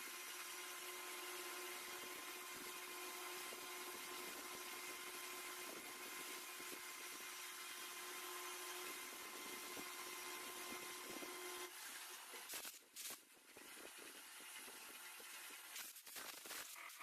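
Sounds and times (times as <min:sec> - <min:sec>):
machine motor humming with whine: 0:00.0 - 0:12.8, 0:13.4 - 0:15.8.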